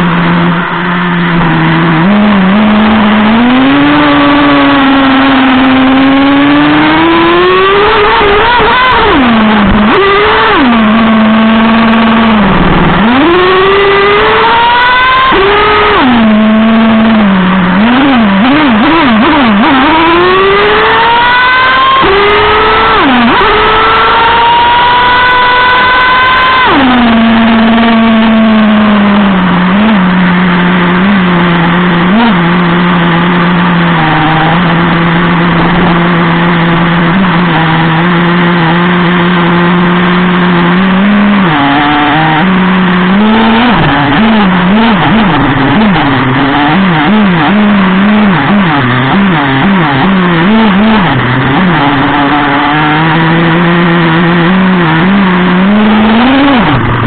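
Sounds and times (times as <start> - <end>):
rc truck engine revving: 0.0 - 57.0.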